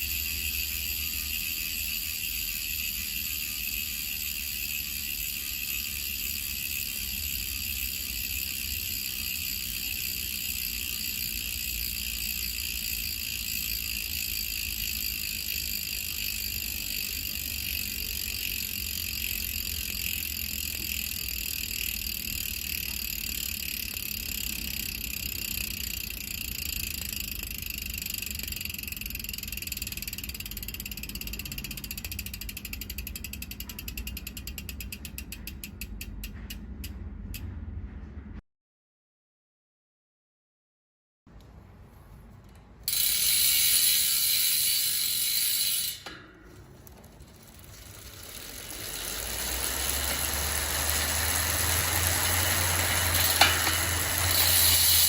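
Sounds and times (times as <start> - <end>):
bicycle freehub clicking: 0.0 - 37.6, 42.4 - 55.0.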